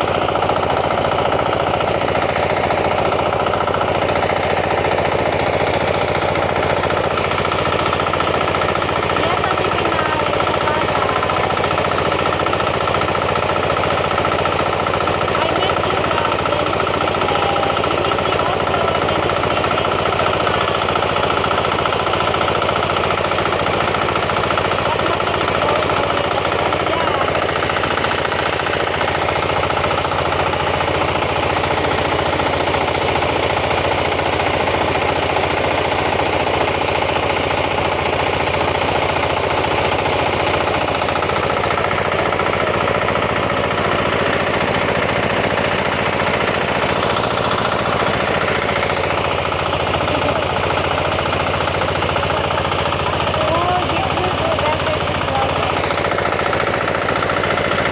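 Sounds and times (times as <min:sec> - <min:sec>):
small engine running fast: 0:00.0 - 0:57.9.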